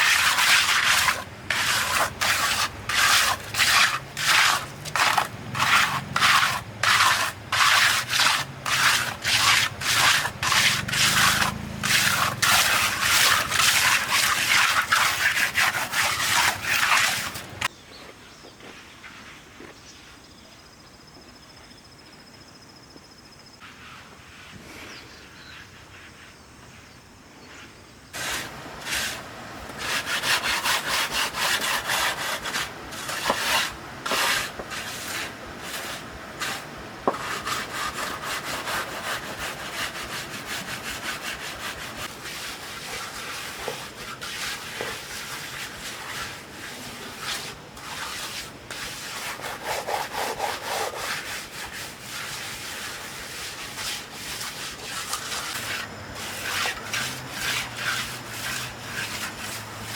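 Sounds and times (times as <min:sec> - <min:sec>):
hand tool scraping: 0:00.0 - 0:17.7, 0:28.2 - 0:59.9.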